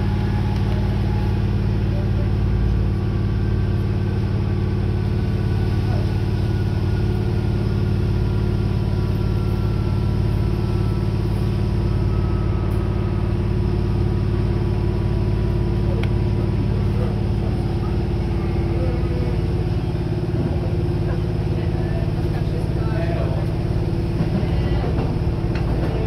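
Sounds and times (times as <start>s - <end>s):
railcar engine hum: 0.0s - 26.0s
wheels rumbling on track: 0.0s - 26.0s.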